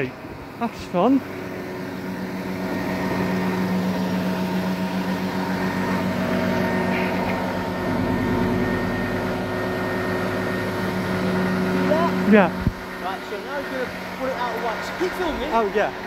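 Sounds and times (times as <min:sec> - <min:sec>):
fire engine engine droning: 0:00.0 - 0:16.0.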